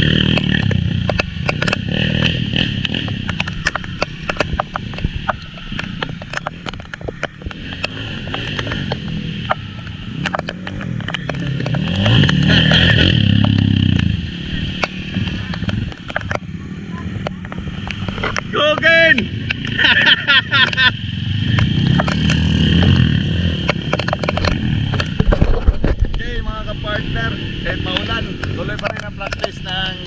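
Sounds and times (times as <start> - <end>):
sharp ticks: 0.0 - 25.4, 27.8 - 30.0
small motorcycle engine revving: 0.0 - 30.0.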